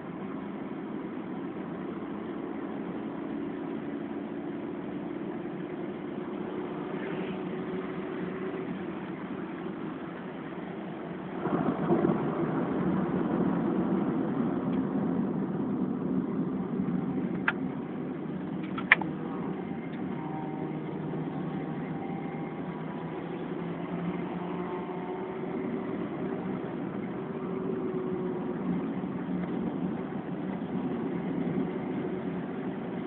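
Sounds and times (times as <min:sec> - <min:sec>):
car engine at speed: 0:00.0 - 0:33.0
road noise inside car: 0:00.0 - 0:33.0.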